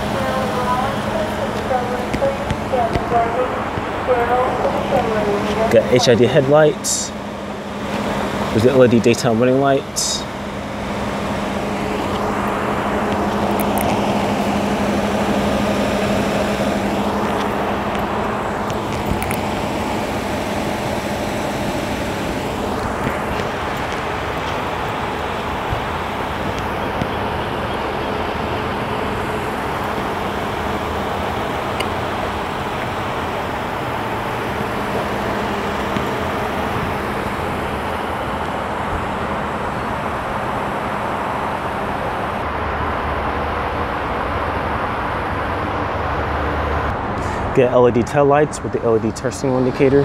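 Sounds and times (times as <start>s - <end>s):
car engine idling: 0.0s - 50.0s
rushing noise: 0.0s - 50.0s.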